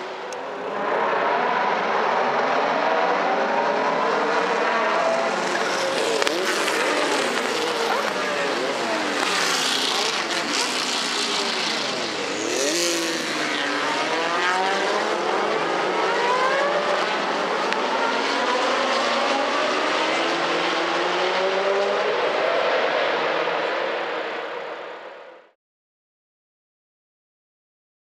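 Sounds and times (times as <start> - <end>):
racing car engines at full throttle: 0.0 - 25.6
car passing by: 0.7 - 24.2.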